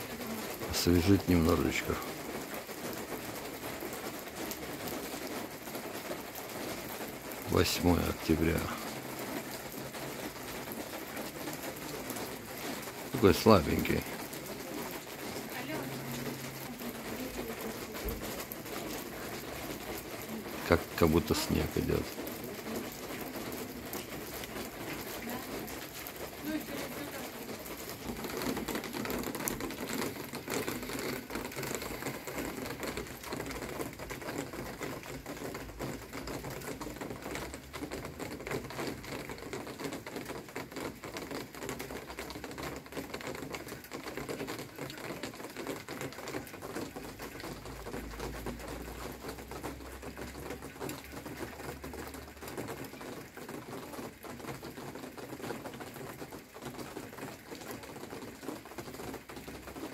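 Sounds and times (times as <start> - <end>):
light rain falling: 0.0 - 59.9.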